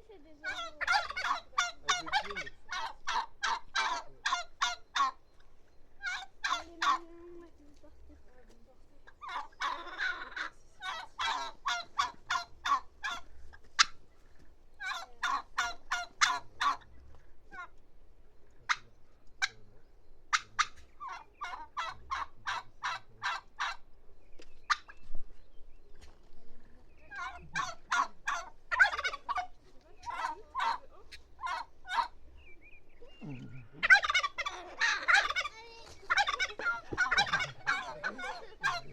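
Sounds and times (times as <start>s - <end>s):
turkeys gobbling: 0.0s - 38.9s.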